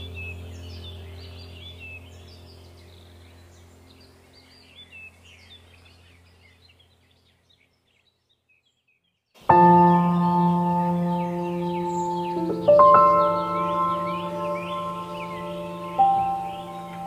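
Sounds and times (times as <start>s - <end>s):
low steady hum: 0.0s - 8.4s, 9.4s - 17.0s
songbirds chirping and trilling: 0.0s - 17.0s.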